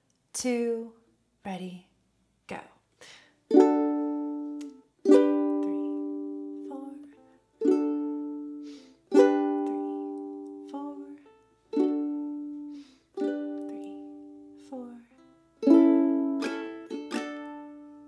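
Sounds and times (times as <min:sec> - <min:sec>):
ukulele chords strummed: 0:03.5 - 0:18.0.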